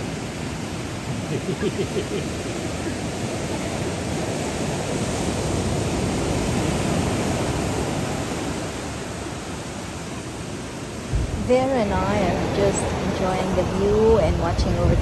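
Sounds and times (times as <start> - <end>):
ocean surf washing on beach: 0.0 - 15.0.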